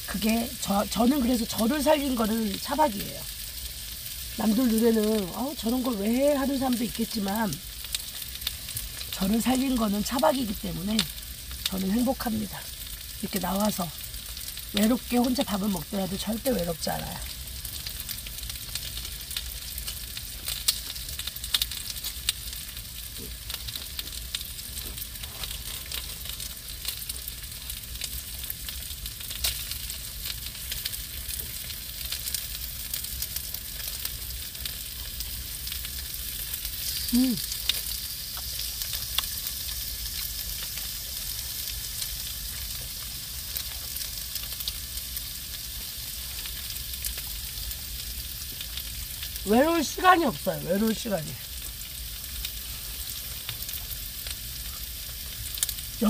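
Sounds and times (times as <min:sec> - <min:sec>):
food sizzling in a pan: 0:00.0 - 0:56.0
small pops and crackles: 0:01.0 - 0:56.0.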